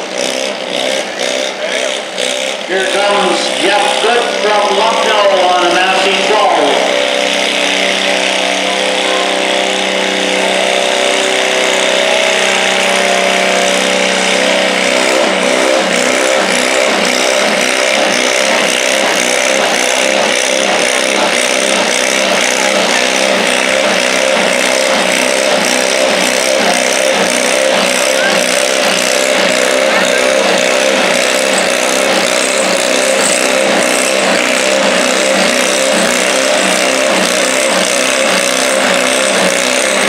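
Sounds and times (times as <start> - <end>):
tractor engine under load: 0.0 - 40.0.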